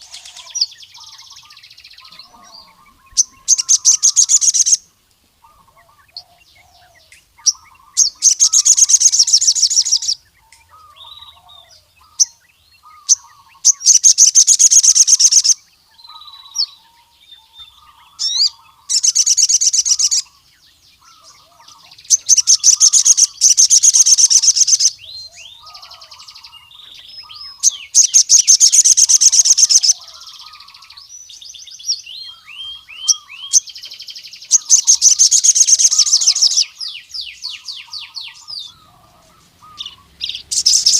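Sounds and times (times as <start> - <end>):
bird chirps and twittering: 0.0 - 40.9
bird singing rapid trills: 0.0 - 40.9.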